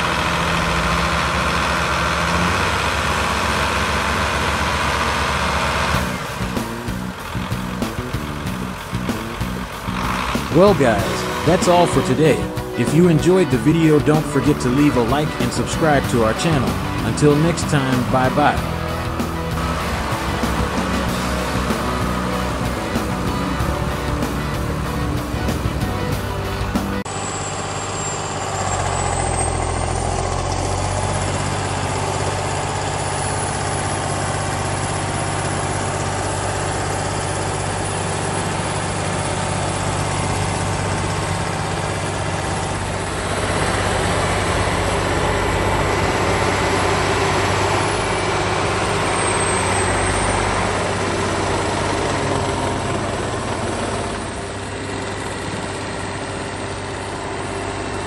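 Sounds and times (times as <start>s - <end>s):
tractor diesel engine labouring: 0.0s - 58.0s.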